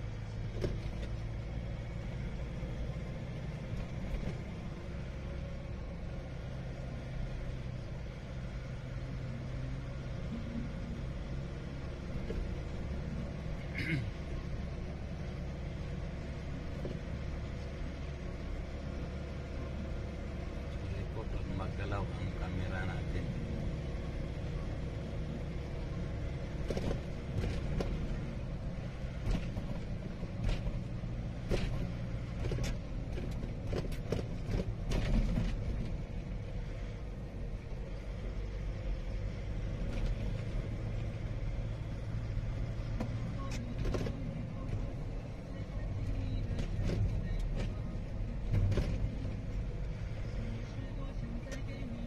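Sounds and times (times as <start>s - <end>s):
vehicle engine and road drone: 0.0s - 52.0s.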